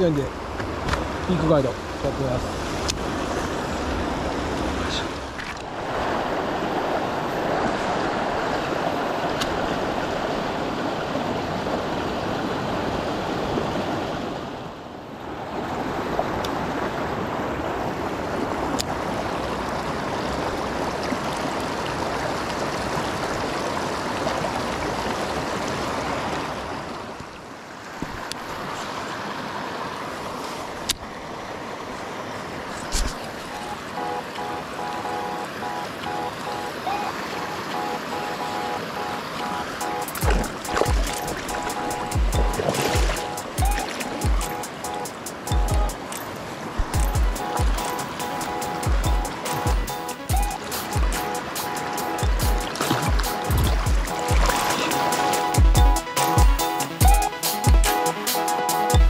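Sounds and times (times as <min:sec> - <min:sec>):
stream rushing over stones: 0:00.0 - 0:57.1.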